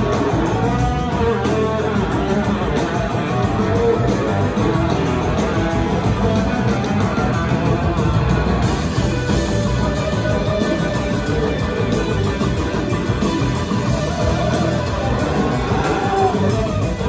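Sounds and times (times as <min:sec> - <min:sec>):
electric guitars: 0:00.0 - 0:17.0
live rock band playing: 0:00.0 - 0:17.0.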